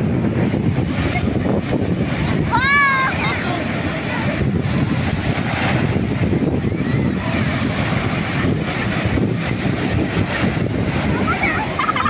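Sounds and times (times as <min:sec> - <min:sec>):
surf breaking on a beach: 0:00.0 - 0:12.0
wind buffeting microphone: 0:00.0 - 0:12.0.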